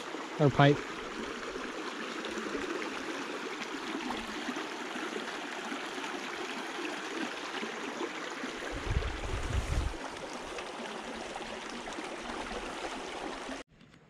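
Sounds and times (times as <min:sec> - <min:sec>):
creek water rushing over mud: 0:00.0 - 0:13.6.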